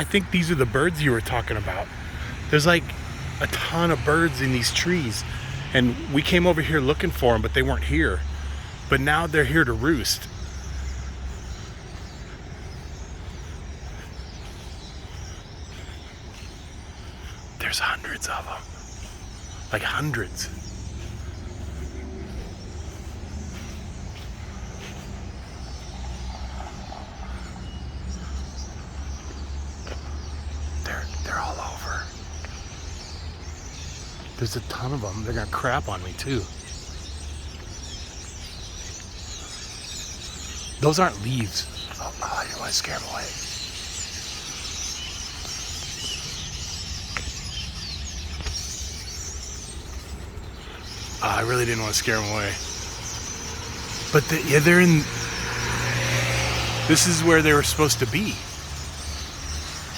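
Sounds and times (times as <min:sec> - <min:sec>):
faint bird chirps: 0:00.0 - 0:59.9
low rumble of road traffic: 0:00.0 - 0:59.9.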